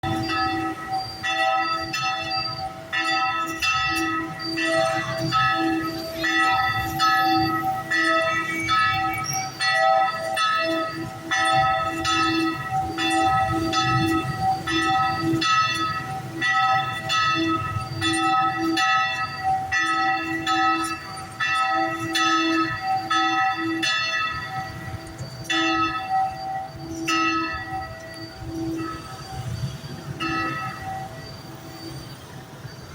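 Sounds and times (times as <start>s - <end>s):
church bells ringing: 0.0s - 32.3s.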